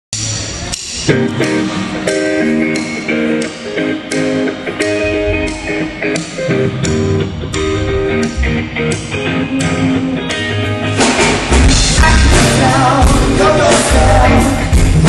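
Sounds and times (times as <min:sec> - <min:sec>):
electric guitar chords: 0:00.2 - 0:15.0.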